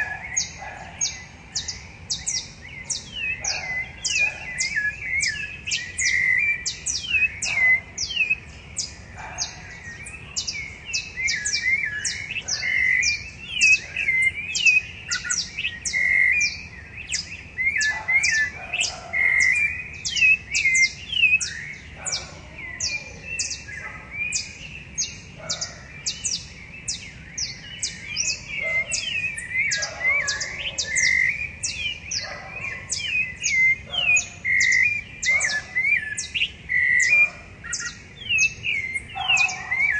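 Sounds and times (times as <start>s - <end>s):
thrushes singing: 0.0s - 39.9s.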